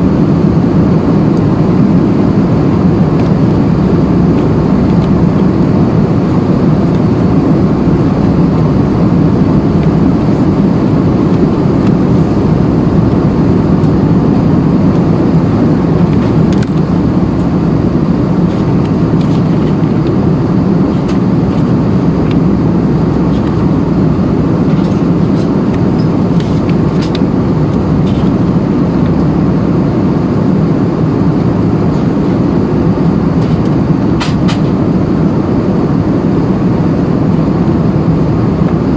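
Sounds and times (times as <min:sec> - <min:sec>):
airplane cabin noise: 0:00.0 - 0:38.9.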